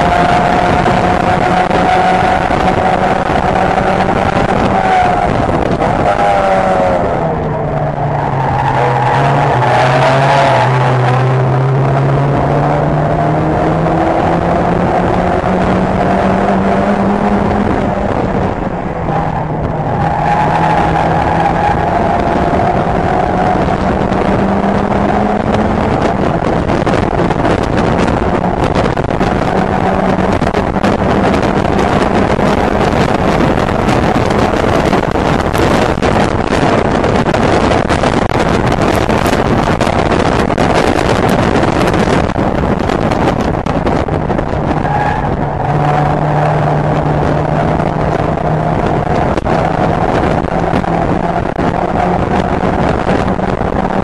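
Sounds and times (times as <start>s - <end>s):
race car engine at high revs: 0.0s - 54.0s
road noise: 0.0s - 54.0s
wind noise: 0.0s - 54.0s.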